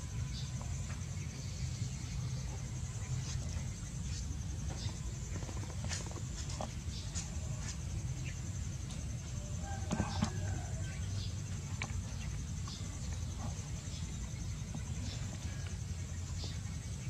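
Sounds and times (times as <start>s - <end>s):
faint high pulsing hiss: 0.0s - 17.0s
low background rumble: 0.0s - 17.0s.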